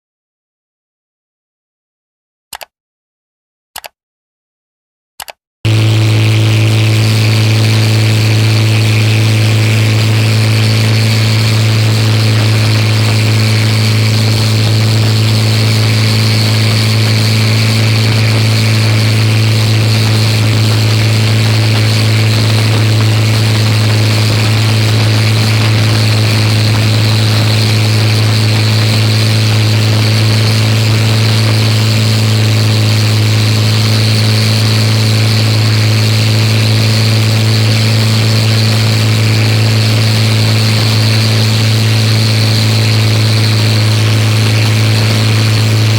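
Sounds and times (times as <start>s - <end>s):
engine running steadily: 5.7s - 45.9s.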